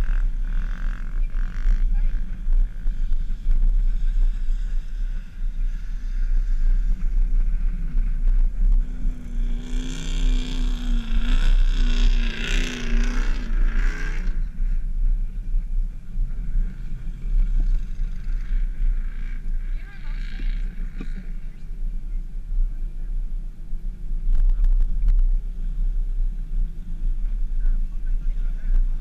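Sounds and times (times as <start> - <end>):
car engine rumble: 0.0 - 29.0
wind: 0.0 - 29.0.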